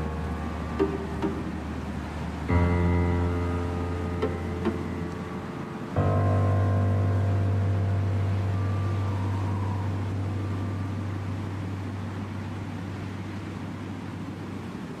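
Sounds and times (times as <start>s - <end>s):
deep low drone music: 0.0s - 14.6s
faint wind noise: 0.0s - 15.0s.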